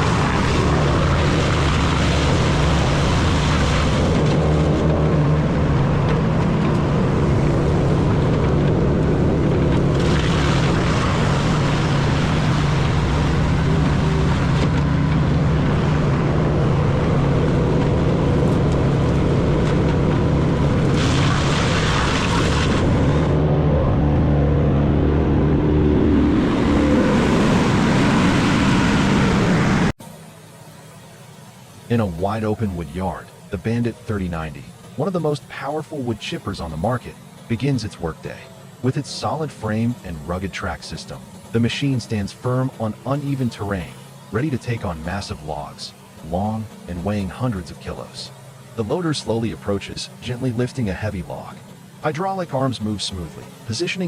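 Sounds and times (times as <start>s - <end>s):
wood chipper engine drone: 0.0s - 54.0s
wood chipper grinding wood: 0.0s - 54.0s.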